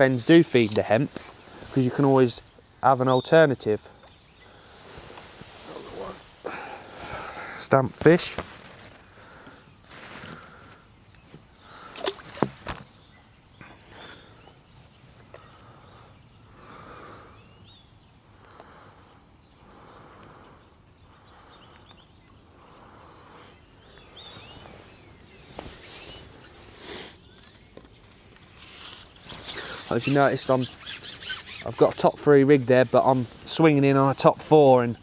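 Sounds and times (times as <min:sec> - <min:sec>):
small birds chirping: 0:00.0 - 0:35.0
soft outdoor background noise: 0:00.0 - 0:35.0.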